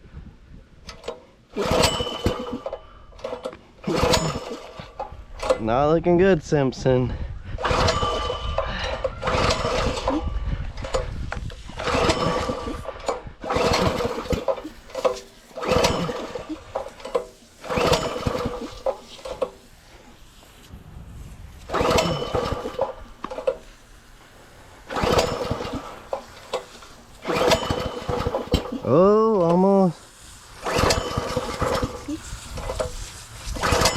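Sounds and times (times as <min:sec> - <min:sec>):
recoil starter pulls: 0:00.8 - 0:05.8, 0:06.9 - 0:20.6, 0:21.6 - 0:33.9
small engine cranking: 0:00.9 - 0:05.7, 0:07.6 - 0:20.1, 0:21.7 - 0:23.9, 0:24.8 - 0:33.9.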